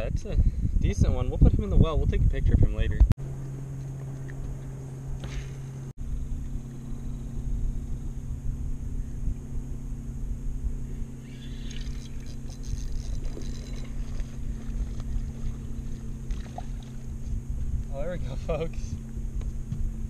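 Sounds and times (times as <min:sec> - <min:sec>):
low rumble: 0:00.0 - 0:20.0
electric motor hum: 0:03.2 - 0:20.0.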